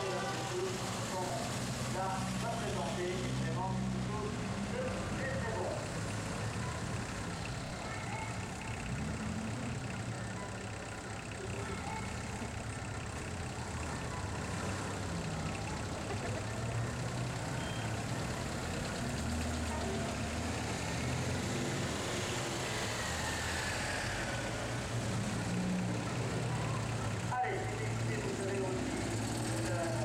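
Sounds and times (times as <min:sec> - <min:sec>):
cars rolling past at low revs: 0:00.0 - 0:30.0.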